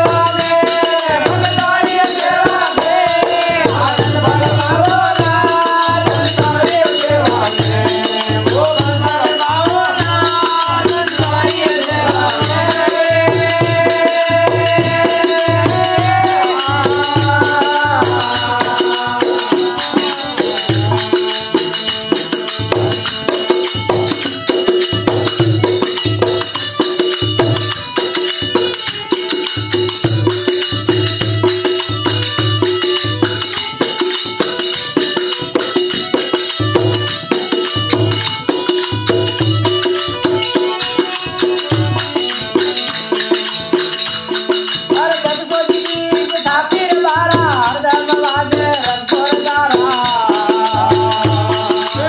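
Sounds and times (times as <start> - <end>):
hand drum beating rhythm: 0.0 - 52.0
harmonium holding notes: 0.0 - 52.0
jingling metal percussion: 0.0 - 52.0
people singing: 0.0 - 52.0.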